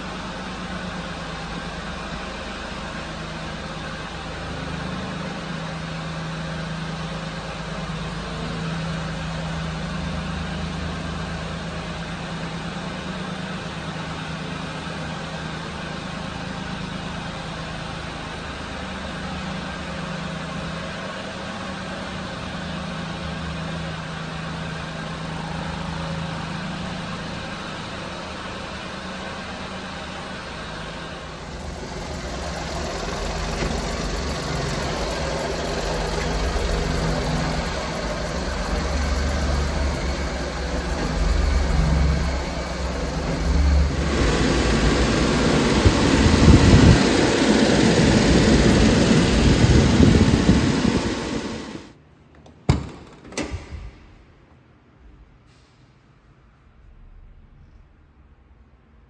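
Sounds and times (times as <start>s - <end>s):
truck engine idling: 0.0s - 51.9s.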